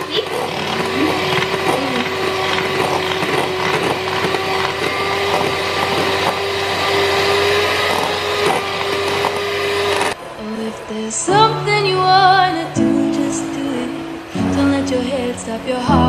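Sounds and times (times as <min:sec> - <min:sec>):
electric mixer whine: 0:00.0 - 0:16.0.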